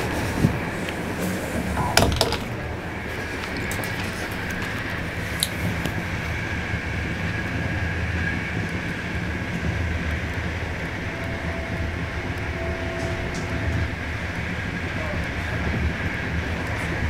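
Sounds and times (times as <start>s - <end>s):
passenger train rumbling: 0.0s - 17.0s.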